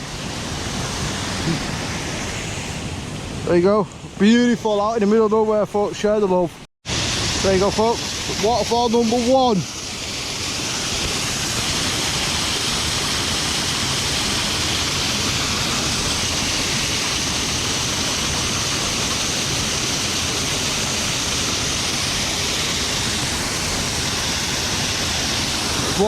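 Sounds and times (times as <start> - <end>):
waterfall rushing: 0.0 - 5.2, 6.9 - 26.0.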